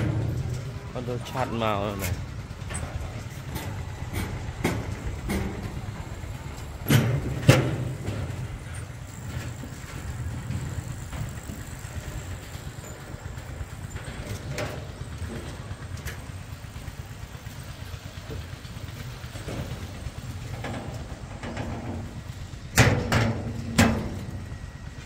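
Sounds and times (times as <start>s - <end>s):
wind rumbling on microphone: 2.1s - 25.0s.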